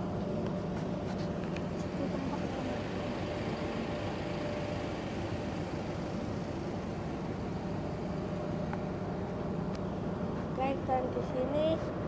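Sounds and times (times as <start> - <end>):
faint steady hum: 0.0 - 12.0
ferry engines droning: 0.0 - 12.0.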